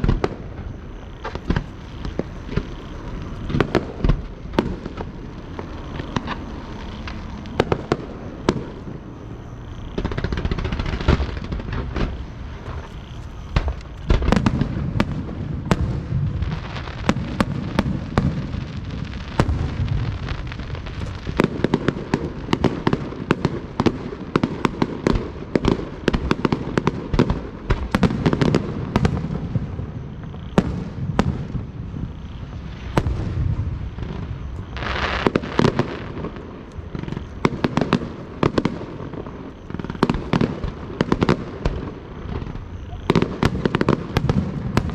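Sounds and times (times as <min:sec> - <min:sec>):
hissing crackle: 0:00.0 - 0:44.9.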